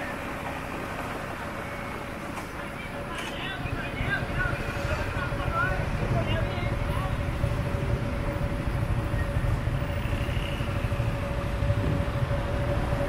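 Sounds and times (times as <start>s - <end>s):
motorbike engine and road rumble: 0.0s - 13.0s.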